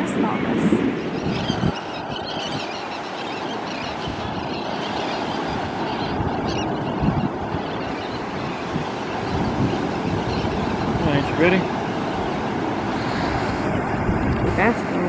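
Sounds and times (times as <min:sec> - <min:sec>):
small surf on beach: 0:00.0 - 0:15.0
wind on microphone: 0:00.0 - 0:15.0.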